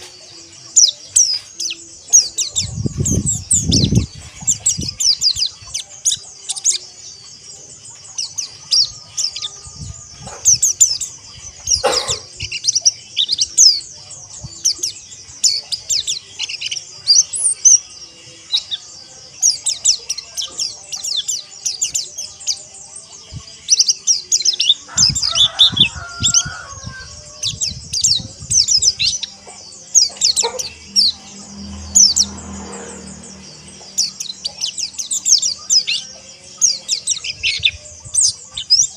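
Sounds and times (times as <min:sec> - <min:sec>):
small birds twittering: 0:00.0 - 0:38.9.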